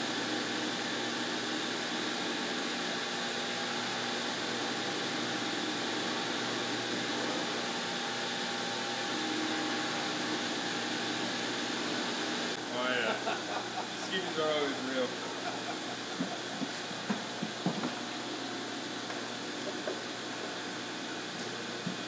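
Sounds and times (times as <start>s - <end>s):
router table machine whine: 0.0s - 22.0s.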